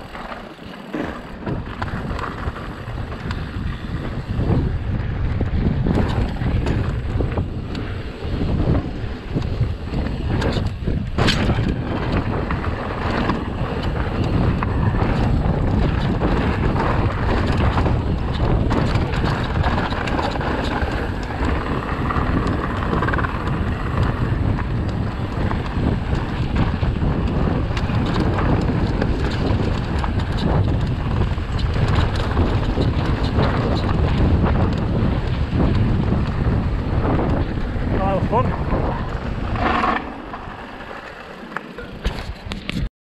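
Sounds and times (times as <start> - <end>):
bike rattles and knocks: 0.0 - 42.9
wind buffeting microphone: 1.2 - 42.9.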